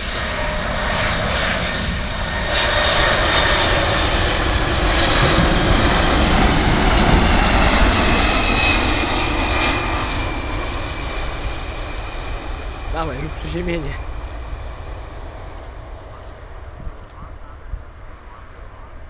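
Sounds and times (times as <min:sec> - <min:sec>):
high jet engine whine: 0:00.0 - 0:19.0
jet airliner flying past: 0:00.0 - 0:19.0.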